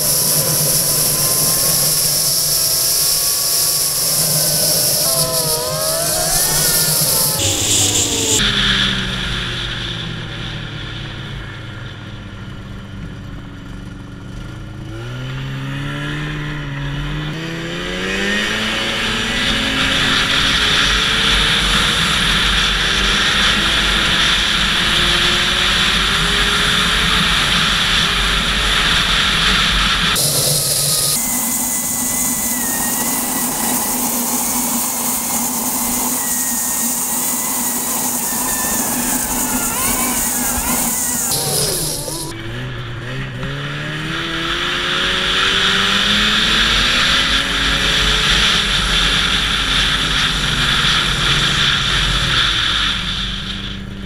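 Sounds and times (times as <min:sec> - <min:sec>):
snowmobile engine revving: 0:00.0 - 0:12.0, 0:13.8 - 0:54.0.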